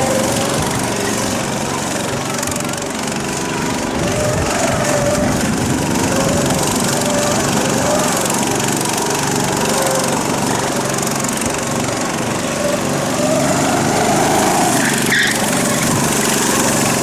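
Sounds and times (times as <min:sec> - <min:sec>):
go-kart engine revving: 0:00.0 - 0:17.0.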